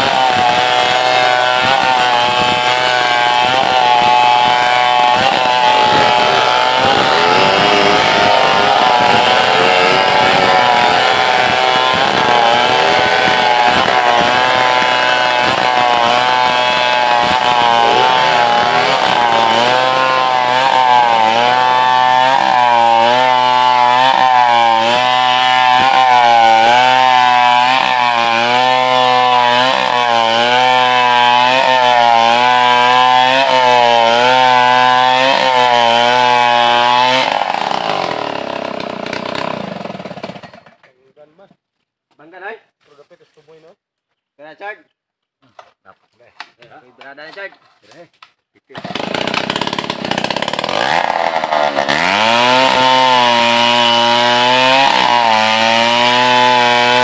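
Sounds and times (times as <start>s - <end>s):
chainsaw cutting log: 0.0s - 40.9s, 48.6s - 57.0s.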